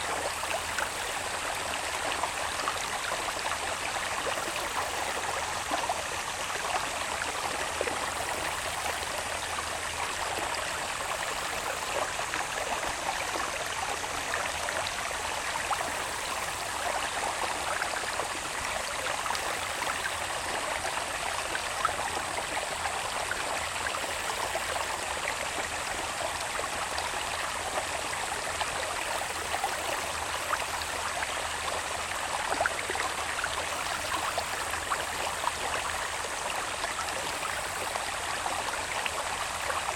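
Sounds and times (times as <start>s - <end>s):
water babbling in a channel: 0.0s - 39.9s.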